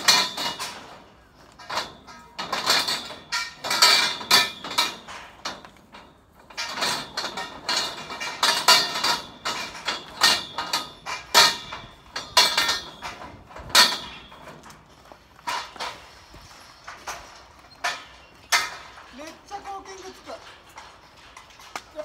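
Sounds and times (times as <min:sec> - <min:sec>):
hammer striking steel joints: 0:00.0 - 0:22.0
steel parts clanking together: 0:00.0 - 0:22.0.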